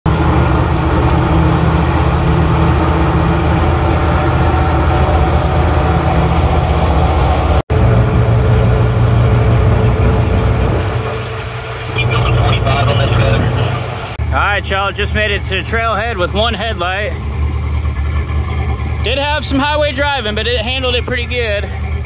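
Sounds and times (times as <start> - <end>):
engine drone: 0.0 - 22.0
road and wind noise: 0.1 - 22.0.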